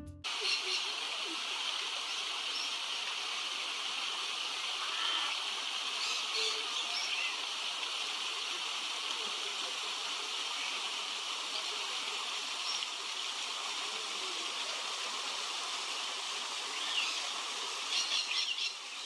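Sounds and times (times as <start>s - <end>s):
running water rushing: 0.3s - 19.0s.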